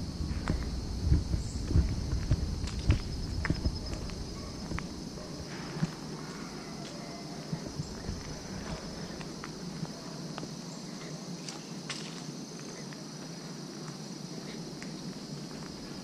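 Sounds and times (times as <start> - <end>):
footsteps on paved path: 0.0 - 16.0
insects droning: 0.0 - 16.0.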